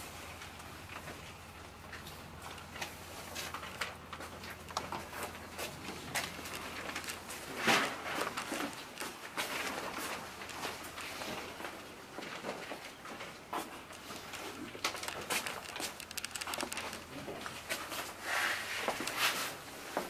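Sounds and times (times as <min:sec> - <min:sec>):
paper rustles and shuffles: 0:02.0 - 0:20.0.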